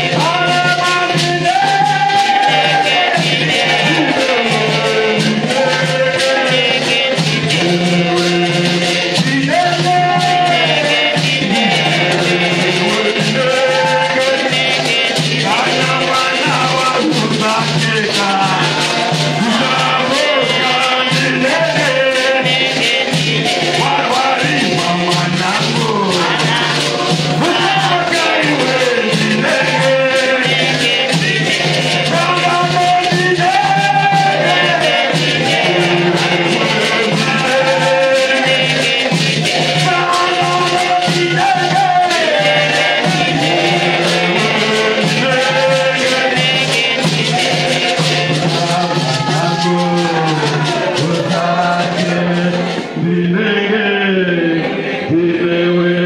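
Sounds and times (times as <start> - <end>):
shakers rattling: 0.0 - 53.0
man singing into microphone: 0.0 - 56.0.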